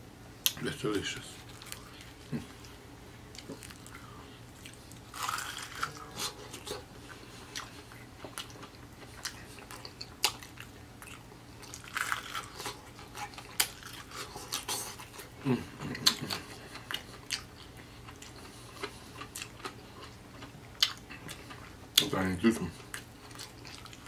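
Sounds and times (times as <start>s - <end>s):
crunching fried chicken: 3.4s - 24.0s.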